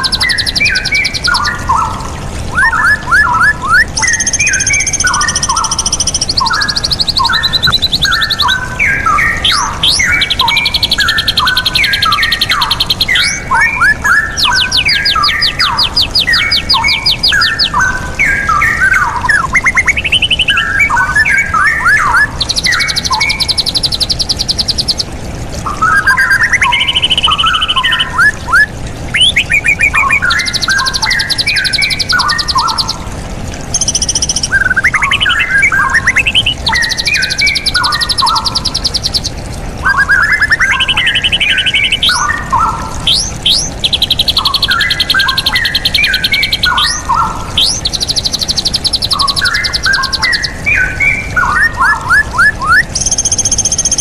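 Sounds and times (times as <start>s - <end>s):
fast high-pitched bird trills: 0.0s - 33.1s, 33.7s - 54.0s
bird singing warbled phrases: 0.0s - 54.0s.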